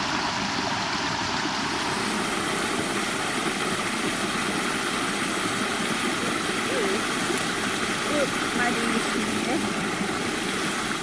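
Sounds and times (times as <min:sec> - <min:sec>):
small waterfall rushing: 0:00.0 - 0:11.0.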